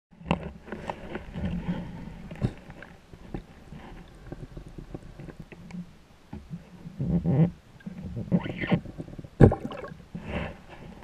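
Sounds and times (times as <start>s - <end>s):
muffled underwater rumble: 0.2s - 11.0s.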